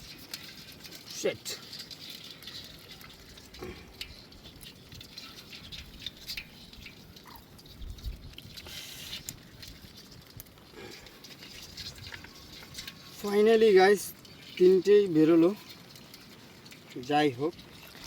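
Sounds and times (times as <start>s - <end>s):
fishing net clicks and rustles: 0.0s - 18.0s.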